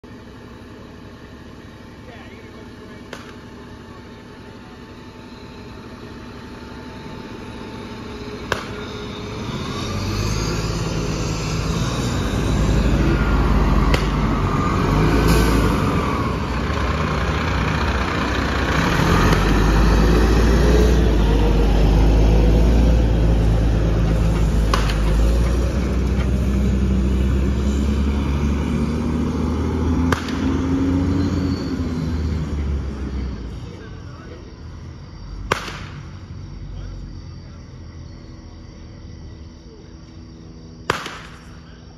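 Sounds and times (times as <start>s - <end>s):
fire truck diesel engines rumbling: 0.0s - 41.9s.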